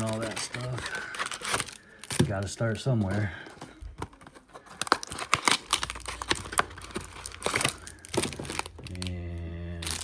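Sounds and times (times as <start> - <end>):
packaging crinkling and tearing: 0.0 - 3.3, 4.1 - 10.0.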